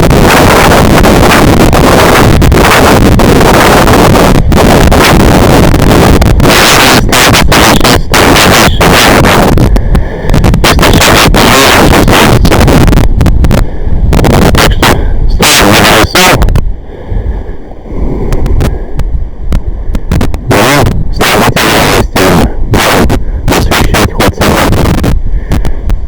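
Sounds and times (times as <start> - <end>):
loud distorted crackling noise: 0.0 - 16.7, 18.2 - 26.0.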